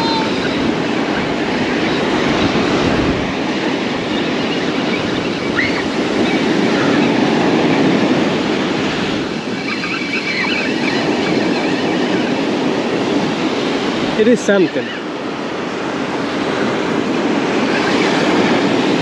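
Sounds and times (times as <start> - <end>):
surf washing: 0.0 - 19.0.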